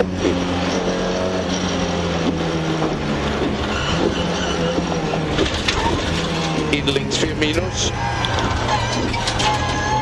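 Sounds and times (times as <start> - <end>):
car engine running hard: 0.0 - 10.0
road and tyre noise: 0.0 - 10.0.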